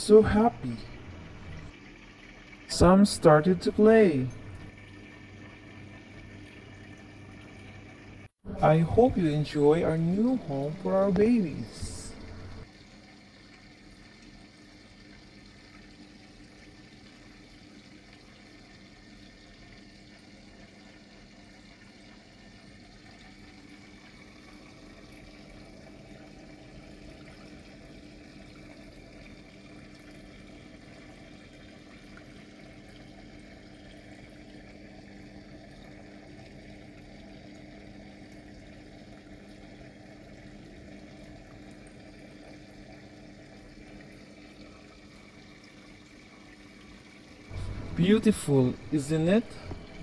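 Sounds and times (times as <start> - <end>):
aquarium filter hum: 0.0 - 50.0
water bubbling and trickling: 0.0 - 50.0.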